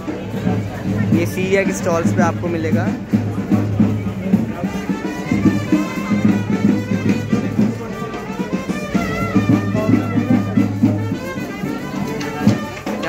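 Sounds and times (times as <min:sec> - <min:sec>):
drum beat: 0:00.0 - 0:13.0.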